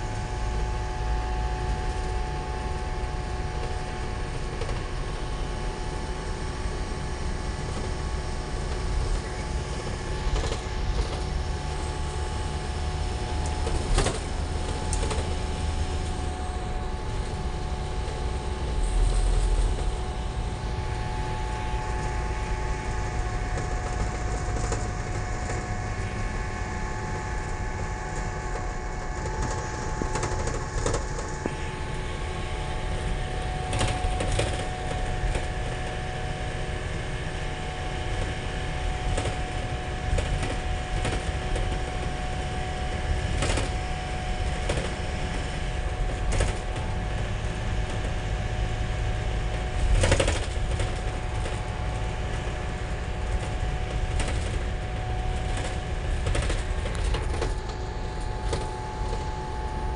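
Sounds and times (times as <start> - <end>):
rattles from vehicle body: 0.0 - 36.7, 37.6 - 59.9
engine and road rumble: 0.0 - 59.9.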